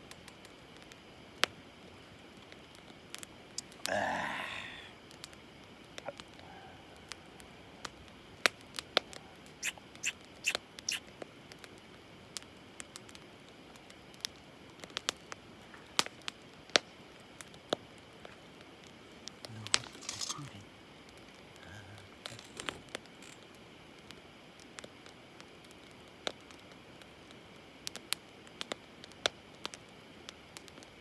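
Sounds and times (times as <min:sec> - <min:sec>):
campfire crackling: 0:00.0 - 0:31.0
faint steady hiss: 0:00.0 - 0:31.0.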